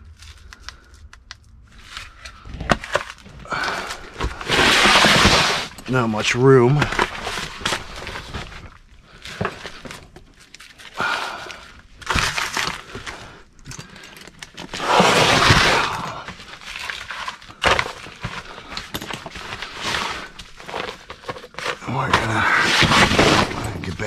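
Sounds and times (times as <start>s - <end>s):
plastic sheeting crinkling: 3.2s - 13.4s, 14.7s - 24.0s.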